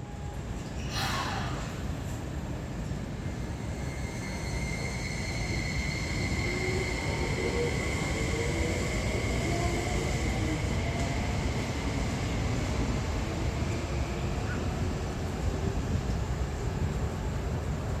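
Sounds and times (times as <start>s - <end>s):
rumble of train wheels: 0.0s - 18.0s
electric train accelerating: 1.3s - 17.7s.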